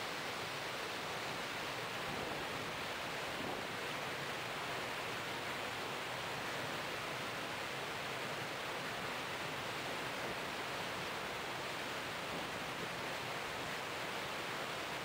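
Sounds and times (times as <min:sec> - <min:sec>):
water and wind rushing past boat: 0:00.0 - 0:15.0.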